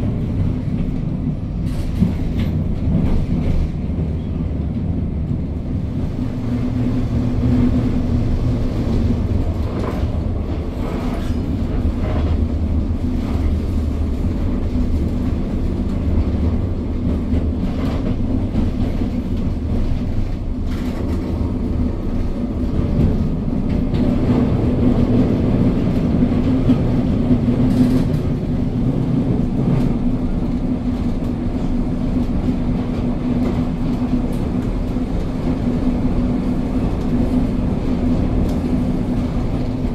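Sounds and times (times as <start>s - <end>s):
tram rumbling on rails: 0.0s - 39.9s.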